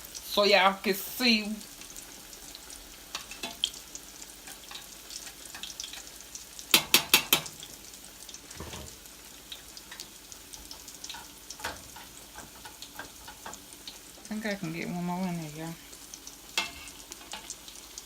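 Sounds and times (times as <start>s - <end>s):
patties sizzling in grease: 0.0s - 18.0s.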